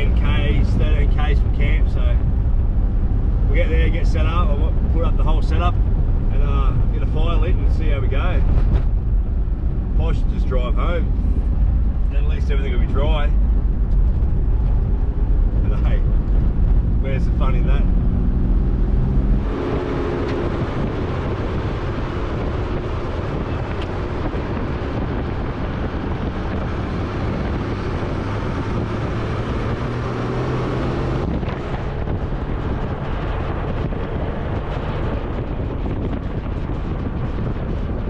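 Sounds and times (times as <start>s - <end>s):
car engine drone: 0.0s - 38.0s
road and wind noise: 0.0s - 38.0s
wind buffeting microphone: 0.0s - 38.0s.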